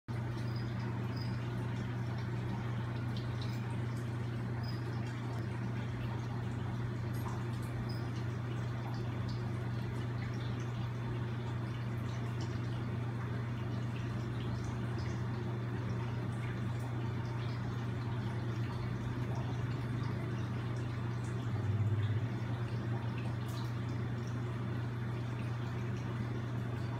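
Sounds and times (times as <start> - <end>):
steady low hum: 0.1 - 26.9.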